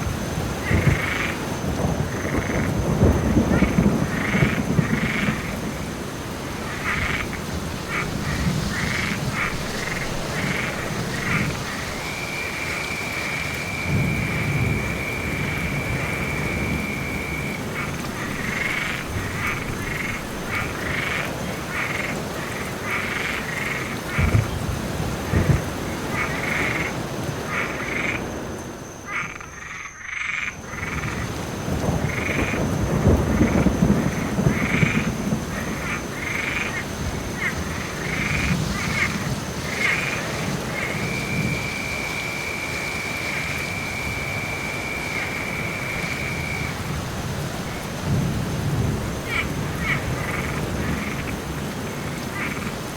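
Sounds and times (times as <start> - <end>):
distant thunder rumble: 0.0 - 52.9
frogs croaking: 0.0 - 52.9
steady rain: 0.0 - 52.9.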